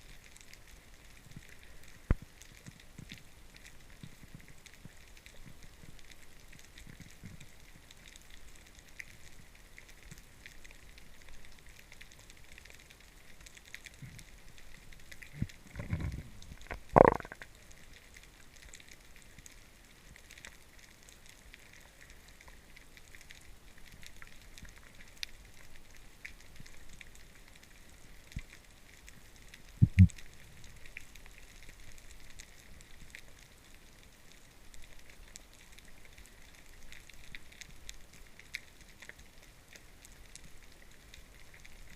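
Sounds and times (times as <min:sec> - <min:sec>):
underwater crackling and hiss: 0:00.0 - 0:41.9.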